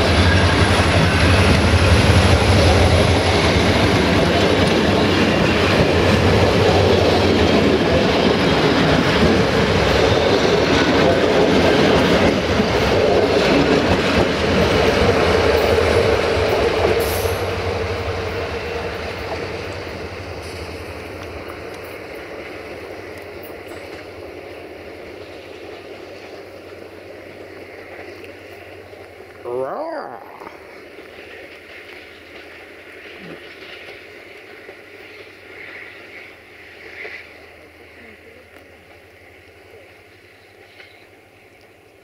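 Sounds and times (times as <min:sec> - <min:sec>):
train wheels clattering over rails: 0:00.0 - 0:29.3, 0:30.9 - 0:37.5.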